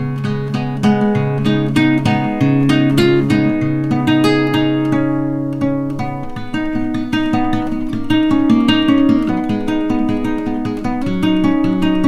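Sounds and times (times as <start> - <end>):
acoustic guitar picked and strummed: 0.0 - 12.0.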